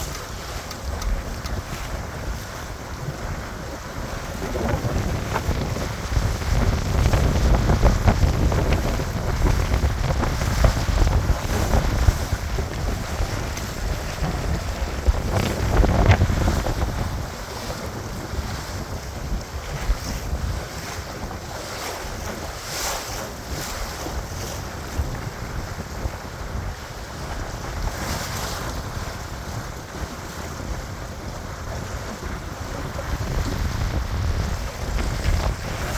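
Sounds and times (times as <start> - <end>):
water rushing along hull: 0.0 - 35.9
wind buffeting microphone: 0.0 - 35.9.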